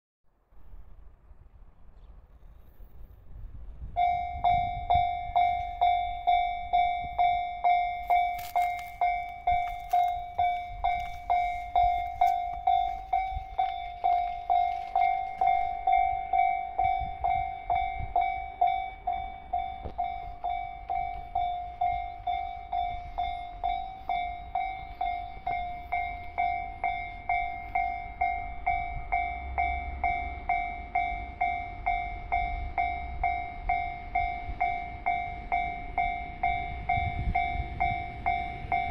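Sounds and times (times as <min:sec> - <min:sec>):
level crossing bell ringing: 0:04.0 - 0:38.9.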